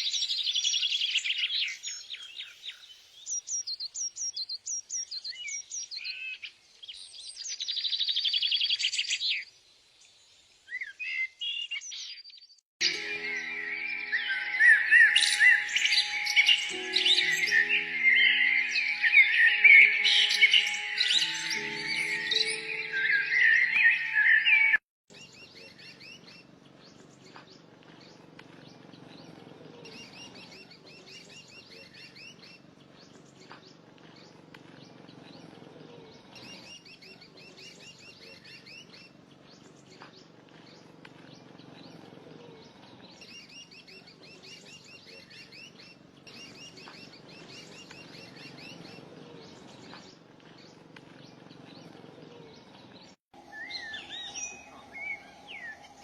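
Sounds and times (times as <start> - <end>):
birds chirping: 10.7 - 56.0.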